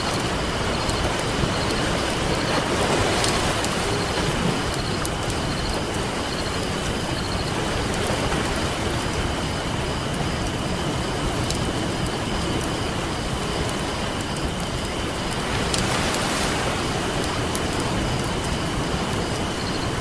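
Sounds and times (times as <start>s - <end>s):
campfire crackling: 0.0s - 20.0s
ocean surf: 0.0s - 20.0s.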